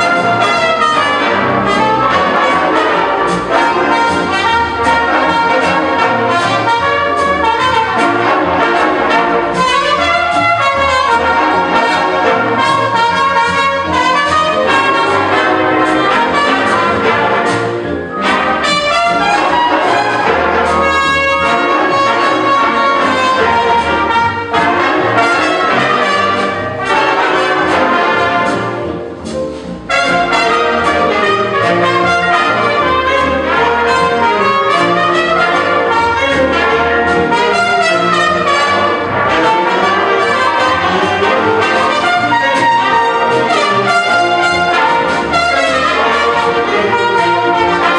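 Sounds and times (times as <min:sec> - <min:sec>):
big band playing: 0:00.0 - 0:47.9
trumpets and trombones: 0:00.0 - 0:47.9.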